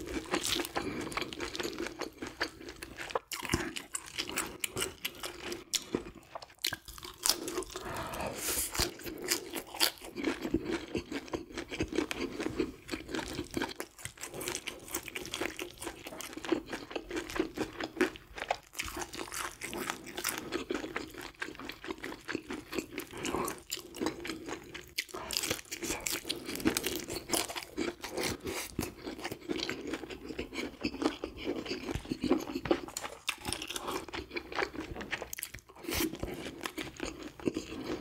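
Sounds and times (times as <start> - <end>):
close chewing with mouth smacks: 0.0 - 38.0.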